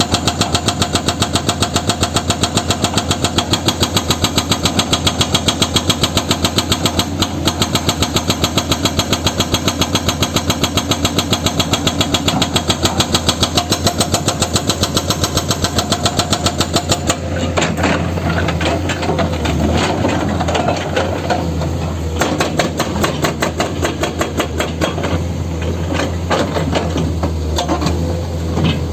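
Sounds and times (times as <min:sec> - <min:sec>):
diesel engine chugging: 0:00.0 - 0:28.9.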